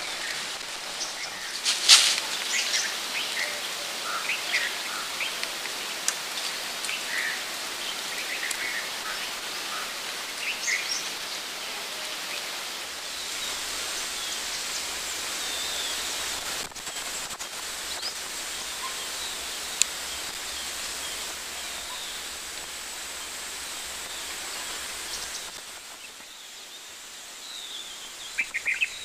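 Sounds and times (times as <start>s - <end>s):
birds chirping: 0.0s - 29.0s
steady hiss: 0.0s - 29.0s.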